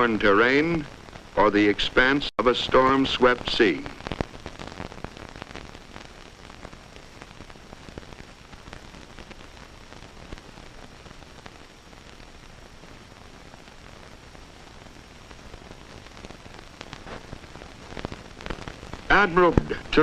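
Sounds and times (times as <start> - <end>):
old film soundtrack hiss: 0.0 - 20.0
small clicks and pops: 3.8 - 20.0.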